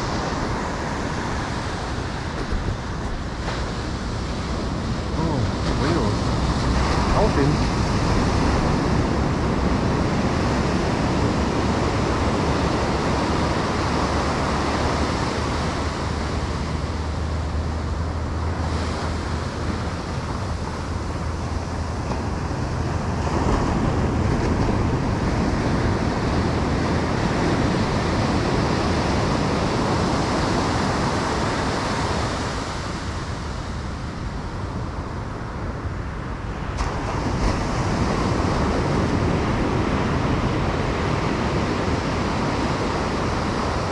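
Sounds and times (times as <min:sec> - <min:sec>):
ocean surf breaking: 0:00.0 - 0:43.9
wind buffeting microphone: 0:00.0 - 0:43.9.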